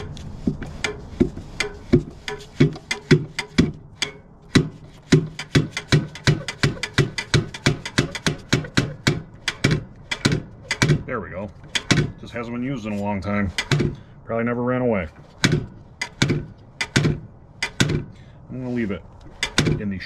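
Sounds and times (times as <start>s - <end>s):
sharp knocks of engine linkage: 0.0s - 12.4s, 13.5s - 14.1s, 15.1s - 18.2s, 19.2s - 19.9s.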